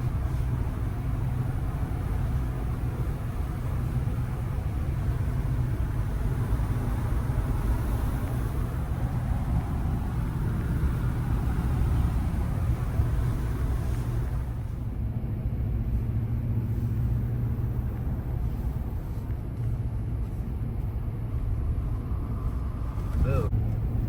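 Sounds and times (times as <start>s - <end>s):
truck engine and tyres rumbling: 0.0s - 24.0s.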